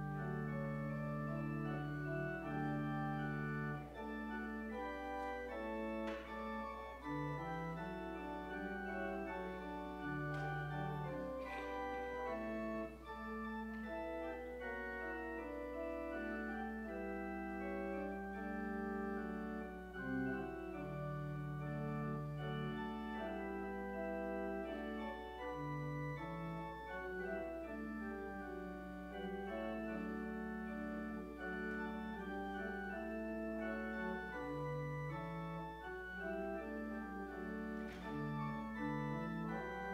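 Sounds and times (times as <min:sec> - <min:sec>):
church organ playing chords: 0:00.0 - 0:39.9.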